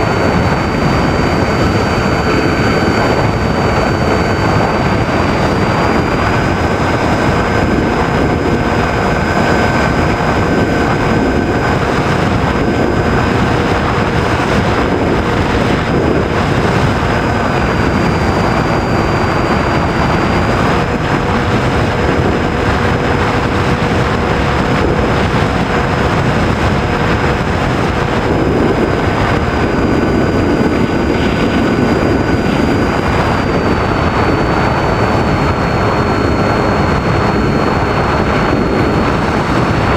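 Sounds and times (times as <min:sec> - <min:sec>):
model airplane motor whine: 0:00.0 - 0:39.9
rush of airflow: 0:00.0 - 0:39.9.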